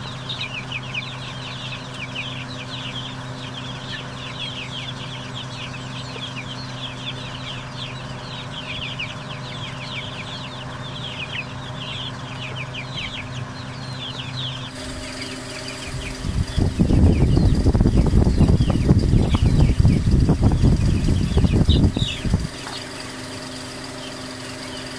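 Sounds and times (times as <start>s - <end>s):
chicks peeping: 0.0s - 24.9s
steady low hum: 0.0s - 24.9s.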